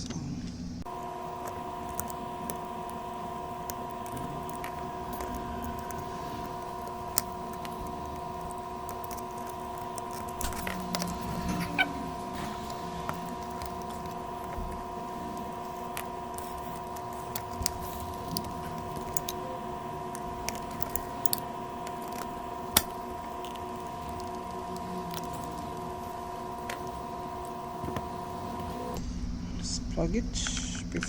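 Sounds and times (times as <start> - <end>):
electrical hum: 0.0 - 31.0
held electronic tones: 0.8 - 29.1
small tools clicking on circuit board: 0.9 - 28.8.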